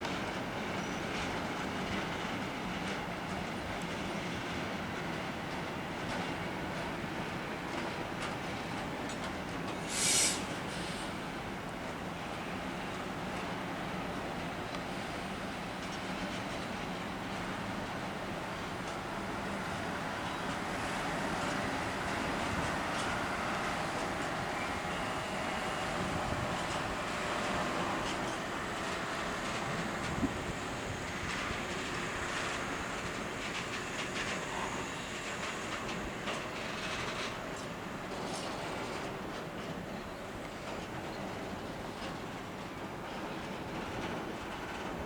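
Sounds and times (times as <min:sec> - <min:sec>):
train rumbling on track: 0:00.0 - 0:45.0.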